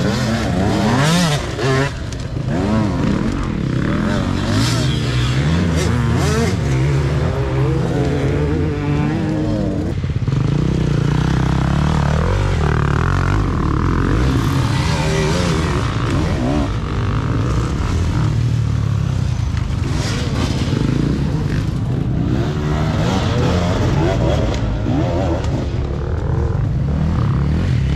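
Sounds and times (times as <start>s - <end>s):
dirt bike engines revving: 0.0s - 27.9s.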